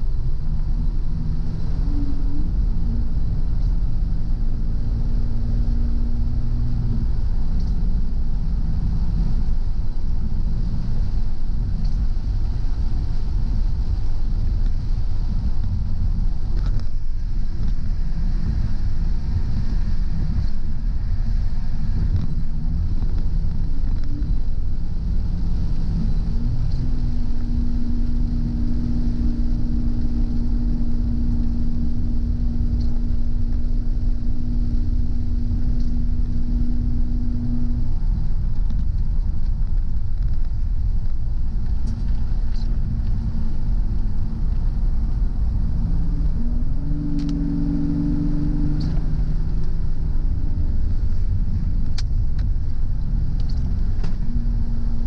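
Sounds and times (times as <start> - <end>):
car engine and road rumble: 0.0 - 55.0
steady hum: 0.0 - 55.0.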